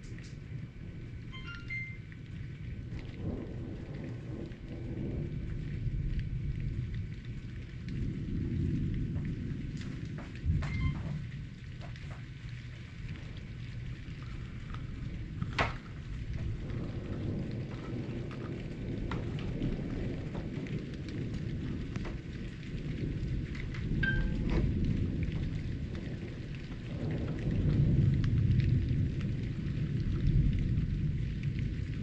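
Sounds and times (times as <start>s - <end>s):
low rumble of thunder: 0.0s - 32.0s
steady rain falling: 0.0s - 32.0s.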